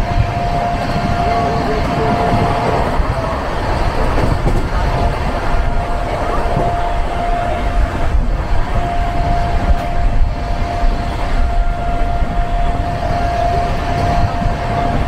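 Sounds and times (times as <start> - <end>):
high whine: 0.0 - 15.0
train wheels rumbling on track: 0.0 - 15.0.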